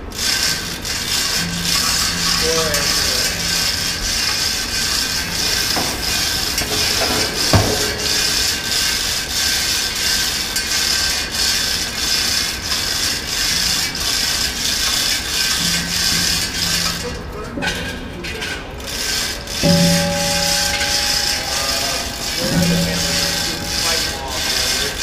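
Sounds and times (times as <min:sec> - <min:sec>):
chain rattling through hoist: 0:00.0 - 0:25.0
ratchet clicking: 0:00.0 - 0:25.0.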